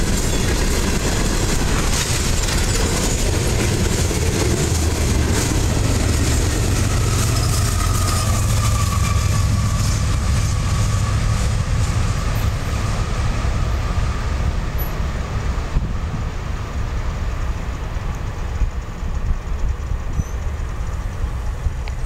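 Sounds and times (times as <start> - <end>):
locomotive rumble: 0.0 - 22.0
rail and wheel noise: 0.0 - 22.0.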